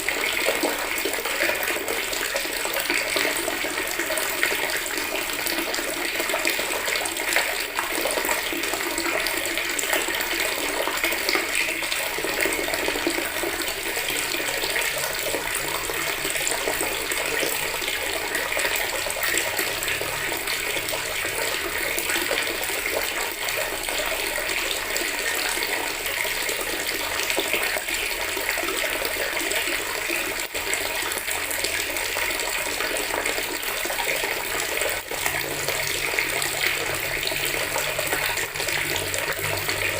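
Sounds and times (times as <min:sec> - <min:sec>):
tap water pouring into bucket: 0:00.0 - 0:39.9.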